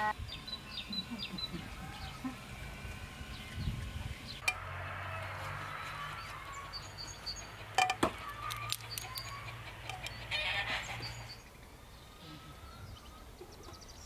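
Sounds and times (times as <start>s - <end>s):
small birds chirping: 0.0s - 4.5s, 5.6s - 14.0s.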